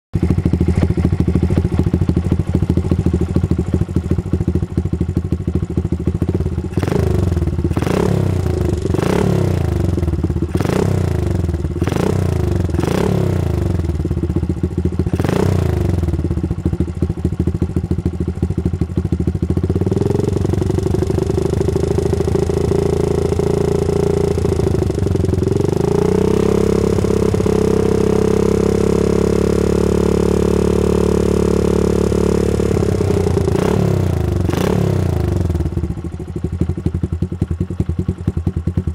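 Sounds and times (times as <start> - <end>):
motorcycle engine revving: 0.2 - 38.9.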